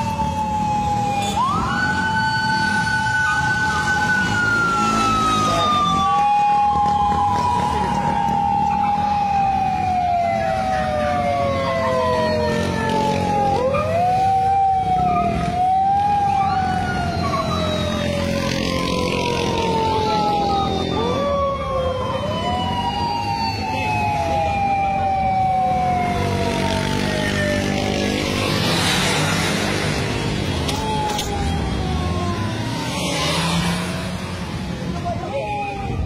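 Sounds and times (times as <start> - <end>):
low rumble of traffic: 0.0 - 36.0
police sirens wailing: 0.0 - 36.0.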